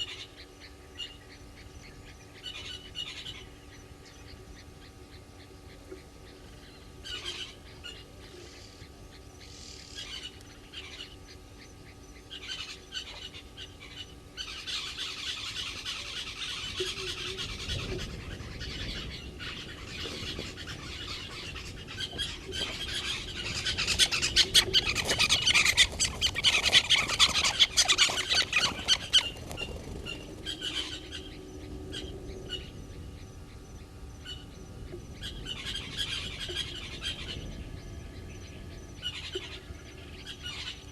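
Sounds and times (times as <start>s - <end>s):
wild birds calling and chattering: 0.0s - 40.9s.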